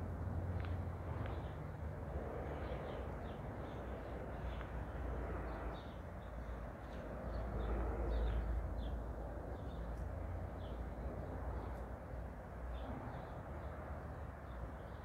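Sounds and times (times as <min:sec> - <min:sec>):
small birds chirping: 0:02.4 - 0:15.0.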